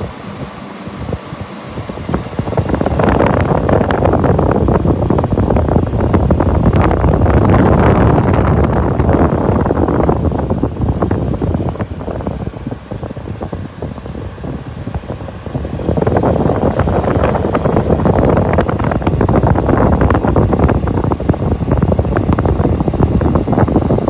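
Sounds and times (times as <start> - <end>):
air conditioner fan rushing: 0.0 - 24.0.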